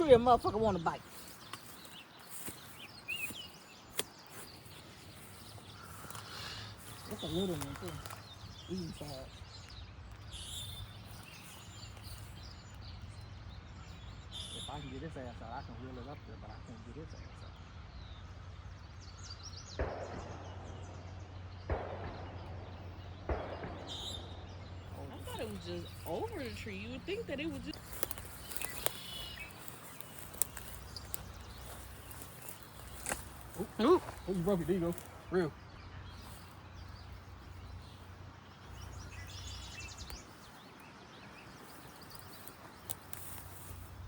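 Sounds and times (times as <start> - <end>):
small bird chirping: 0.0 - 15.9, 22.8 - 44.0.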